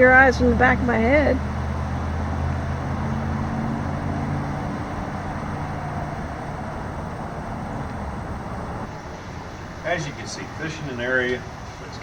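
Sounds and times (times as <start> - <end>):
engine low hum: 0.0 - 12.0
passing vehicles rushing: 0.0 - 12.0.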